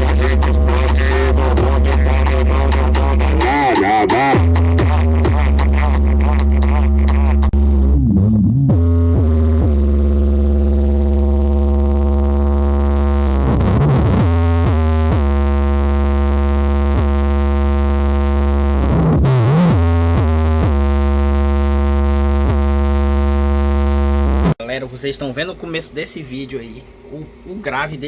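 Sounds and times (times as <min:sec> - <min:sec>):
loud synthesizer music with bass: 0:00.0 - 0:24.6.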